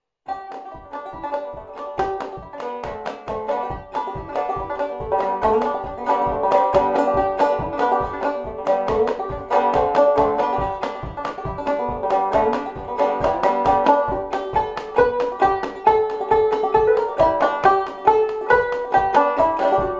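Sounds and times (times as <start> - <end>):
banjo playing fast reel: 0.3 - 19.9.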